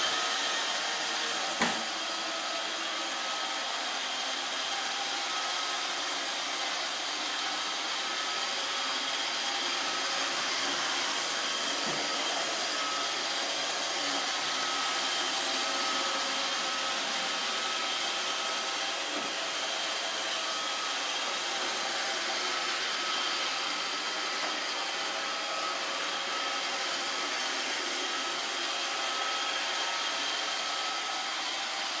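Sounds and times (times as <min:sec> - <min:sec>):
robot vacuum cleaner whirring: 0:00.0 - 0:32.0.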